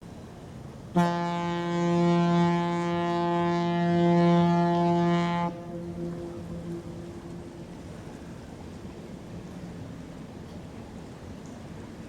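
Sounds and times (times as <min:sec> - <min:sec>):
ship's horn deep blast: 0:00.2 - 0:10.3.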